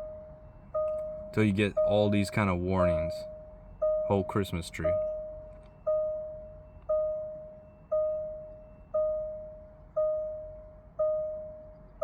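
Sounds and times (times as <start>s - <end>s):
car warning chime: 0.0s - 12.0s.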